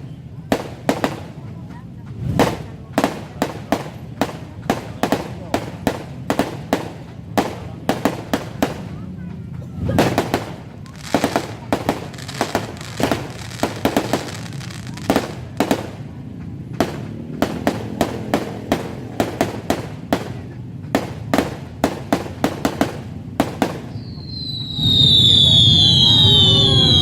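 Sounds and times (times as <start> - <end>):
fireworks banging and cracking: 0.0 - 27.0.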